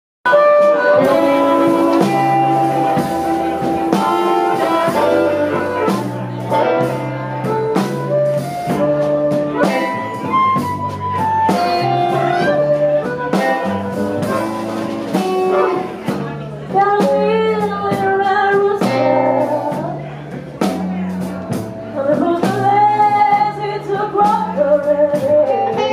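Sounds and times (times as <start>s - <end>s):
electric blues band playing: 0.3s - 25.9s
held electric guitar lead notes: 0.3s - 25.9s
electric bass low figure: 0.4s - 25.9s.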